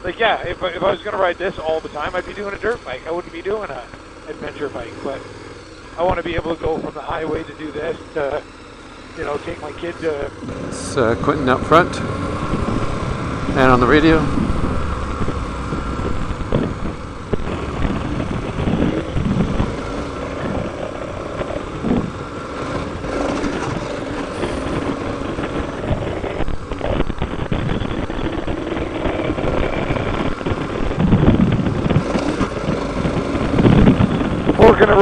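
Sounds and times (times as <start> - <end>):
motorcycle engine running: 0.0 - 35.0
wind and road noise: 0.0 - 35.0.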